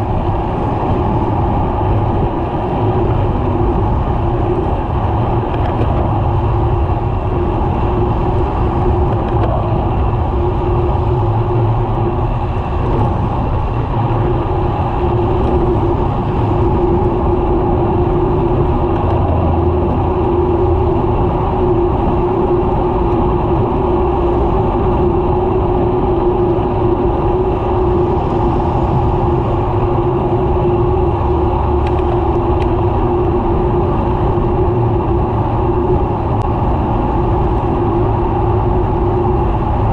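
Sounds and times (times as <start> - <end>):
car traffic passing: 0.0 - 39.9
steady low hum: 0.0 - 39.9
wind and road noise: 0.0 - 39.9.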